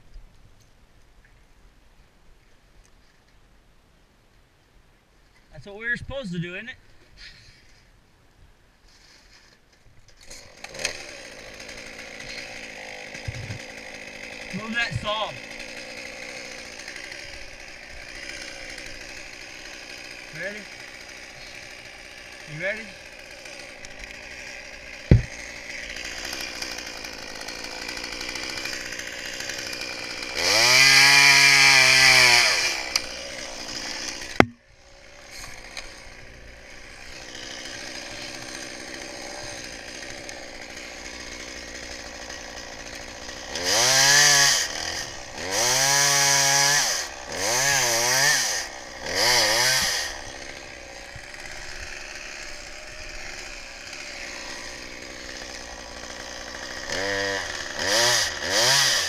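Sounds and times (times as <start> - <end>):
chainsaw idling and revving: 10.2 - 59.0.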